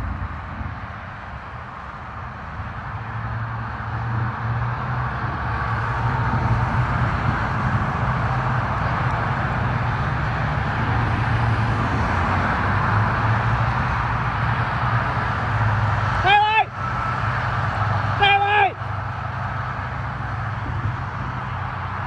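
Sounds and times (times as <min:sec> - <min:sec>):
low engine hum: 0:00.0 - 0:22.0
road traffic rushing: 0:00.0 - 0:22.0.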